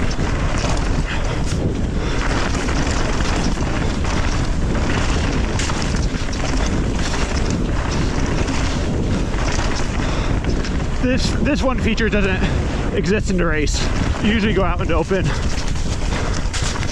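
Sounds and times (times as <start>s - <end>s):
bike knocking and rattling: 0.0s - 16.9s
bike tyres rumbling on dirt: 0.0s - 16.9s
wind buffeting microphone: 0.0s - 16.9s.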